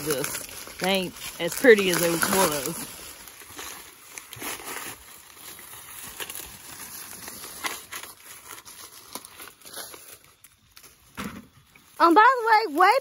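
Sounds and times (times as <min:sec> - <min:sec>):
corn ears snapping off stalks: 0:00.0 - 0:11.6
dry corn leaves rustling: 0:00.0 - 0:13.0.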